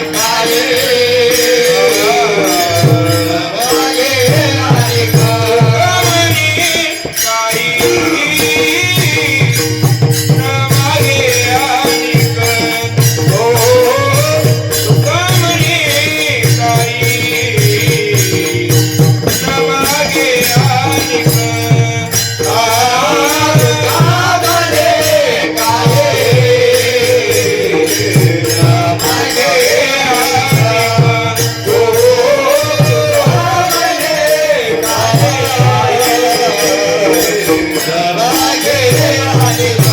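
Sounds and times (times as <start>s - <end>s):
man singing: 0.0s - 39.9s.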